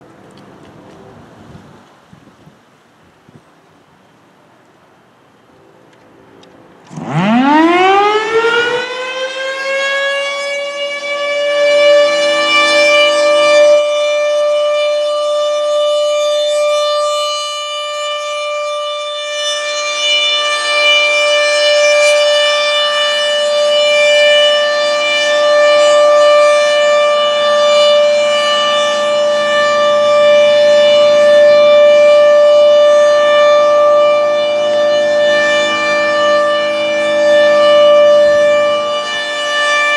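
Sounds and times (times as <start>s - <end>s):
warning siren: 6.2s - 39.9s.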